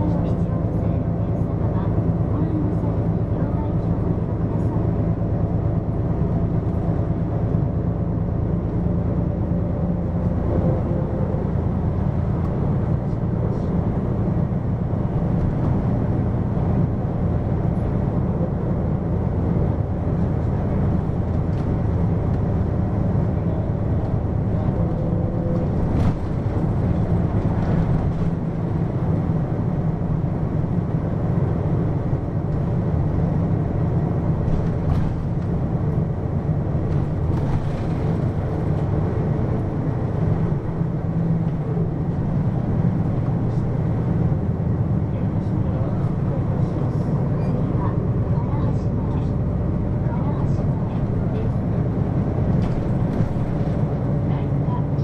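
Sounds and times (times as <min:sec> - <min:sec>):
diesel engine drone: 0:00.0 - 0:55.0
road noise: 0:00.0 - 0:55.0.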